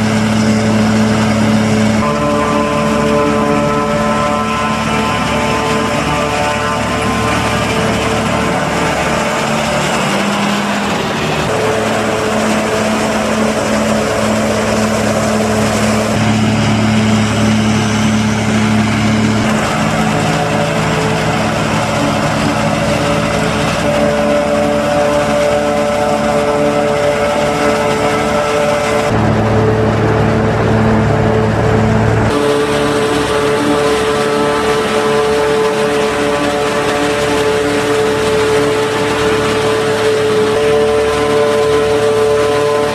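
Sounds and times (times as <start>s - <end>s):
diesel engines under load: 0.0s - 42.9s.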